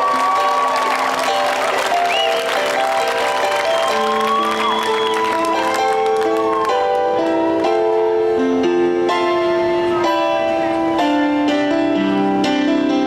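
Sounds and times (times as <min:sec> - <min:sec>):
grand piano playing slow melody: 0:00.0 - 0:13.0.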